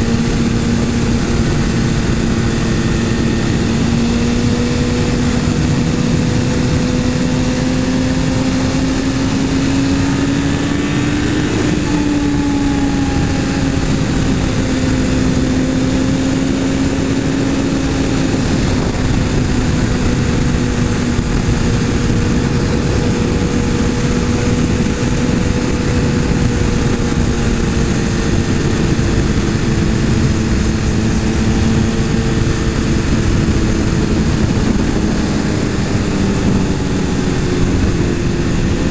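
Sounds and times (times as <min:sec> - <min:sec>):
motorcycle engine cruising: 0:00.0 - 0:38.9
wind rushing: 0:00.0 - 0:38.9.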